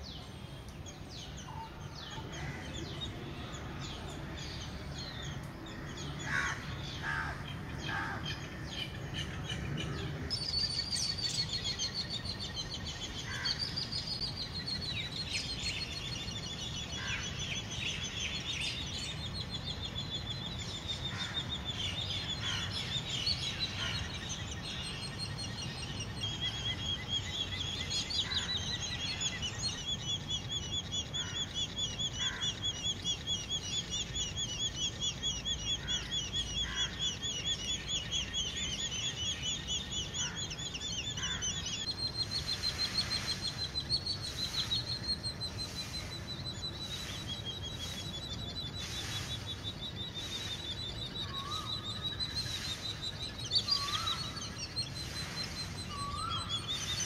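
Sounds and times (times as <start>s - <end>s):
high-pitched bird calls: 0.0s - 57.0s
fast bird trill: 10.4s - 57.0s.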